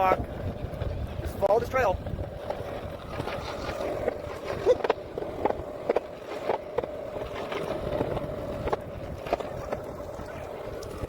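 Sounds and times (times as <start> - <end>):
longboard wheels rolling on pavement: 0.0 - 11.0.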